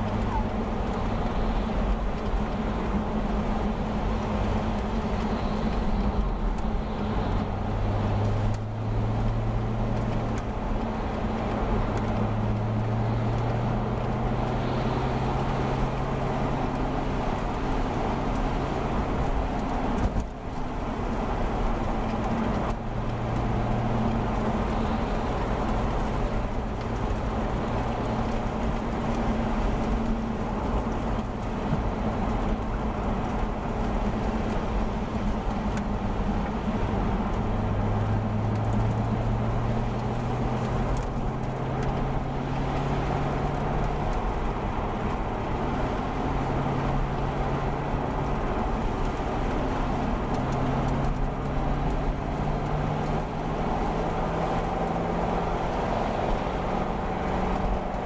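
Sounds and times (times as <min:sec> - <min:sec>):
car engine hum: 0:00.0 - 0:58.0
tyres hissing on wet road: 0:00.0 - 0:58.0.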